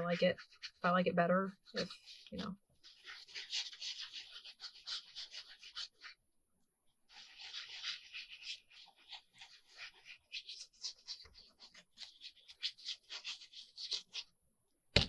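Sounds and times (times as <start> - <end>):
glue bottle tip scratching paper: 0.0 - 0.8, 1.6 - 6.2, 7.1 - 14.3.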